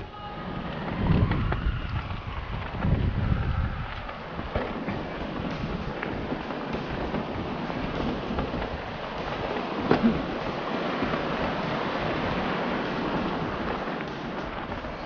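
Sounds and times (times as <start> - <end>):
bike tyres rolling on trail: 0.0 - 15.0
wind on microphone: 0.0 - 15.0.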